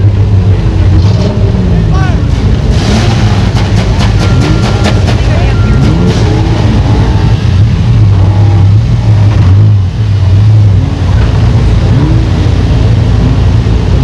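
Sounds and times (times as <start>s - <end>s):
car engines revving loudly: 0.0s - 14.0s
steady low drone: 0.0s - 14.0s.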